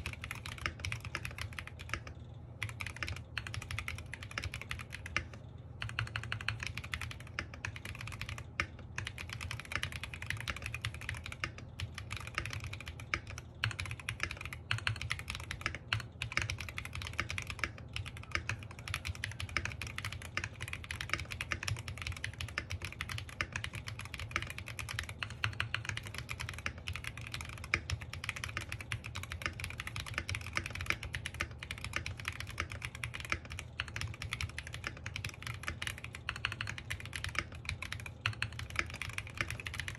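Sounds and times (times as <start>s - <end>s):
faint low hum: 0.0s - 39.9s
mechanical keyboard typing: 0.0s - 39.9s.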